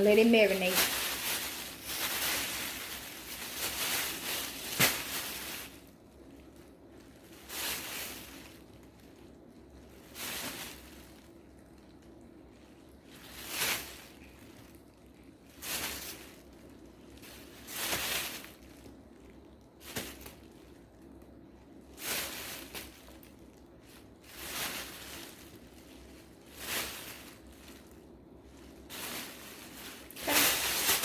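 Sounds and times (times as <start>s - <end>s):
chicken shaken in flour: 0.0s - 19.1s, 21.8s - 31.0s.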